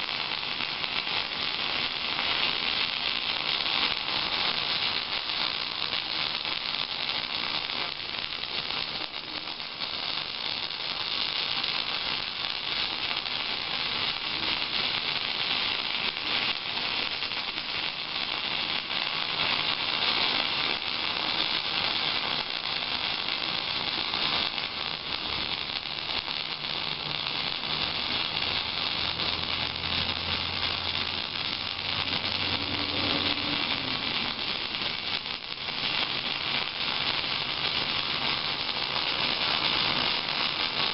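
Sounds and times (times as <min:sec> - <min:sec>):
welding arc crackling hiss: 0:00.0 - 0:40.9.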